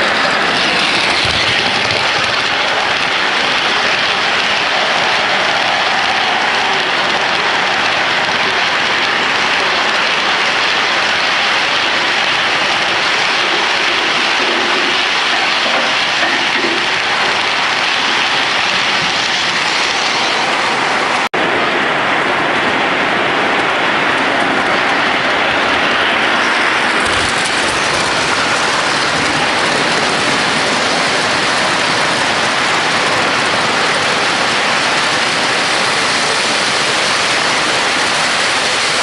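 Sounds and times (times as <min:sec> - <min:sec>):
model train wheels rattling on track: 0:00.0 - 0:21.3, 0:25.4 - 0:39.0.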